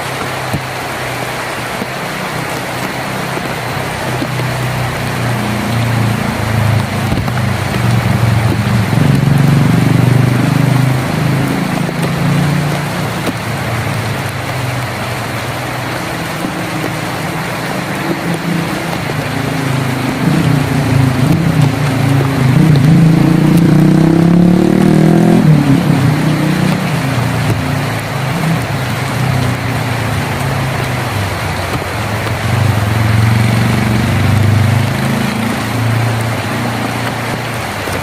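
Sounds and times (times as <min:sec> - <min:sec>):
rain drumming on a tin roof: 0:00.0 - 0:38.0.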